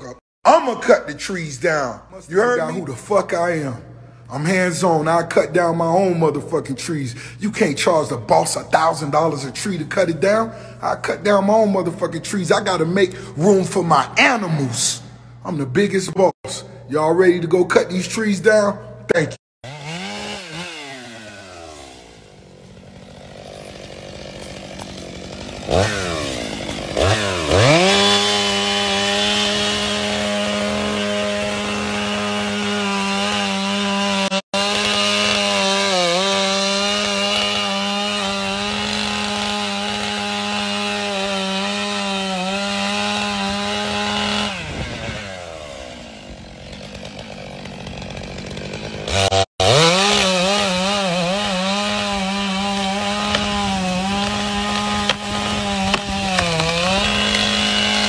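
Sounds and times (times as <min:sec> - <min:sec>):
chainsaw cutting wood: 0:02.4 - 0:15.5, 0:19.6 - 0:58.0.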